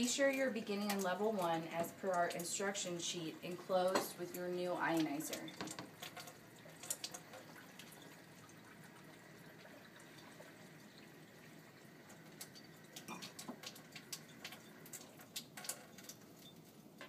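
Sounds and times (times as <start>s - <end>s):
thin stream of running water: 0.0s - 16.7s.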